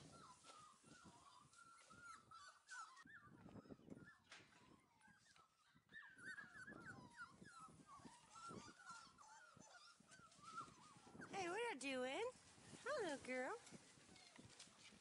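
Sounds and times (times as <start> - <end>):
puppies whining and squeaking: 0.0 - 11.6, 12.4 - 15.0.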